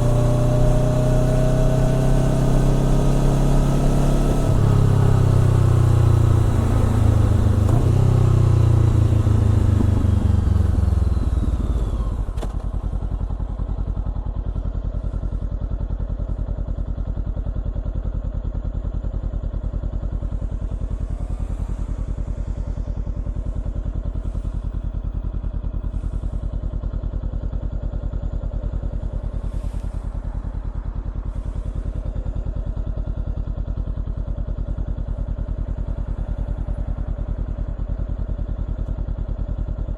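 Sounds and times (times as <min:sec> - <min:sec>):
motorcycle engine slowing and idling: 0:00.0 - 0:39.9.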